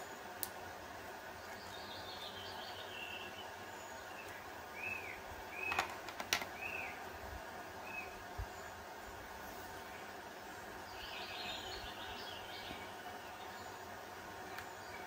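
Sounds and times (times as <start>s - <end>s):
background hiss: 0.0s - 15.0s
birds chirping: 1.0s - 15.0s.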